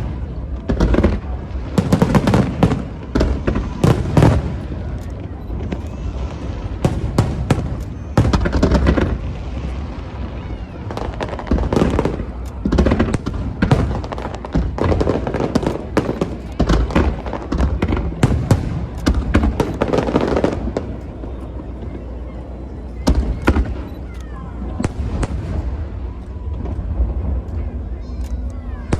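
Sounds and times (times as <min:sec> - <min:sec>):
fireworks bangs: 0:00.0 - 0:28.9
fireworks crackling: 0:00.0 - 0:28.9
steady low rumble: 0:00.0 - 0:28.9.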